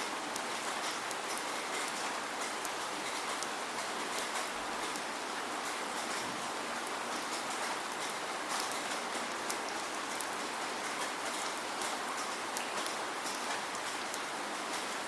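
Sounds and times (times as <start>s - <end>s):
steady rain hissing: 0.0s - 15.0s
raindrops ticking: 0.1s - 15.0s.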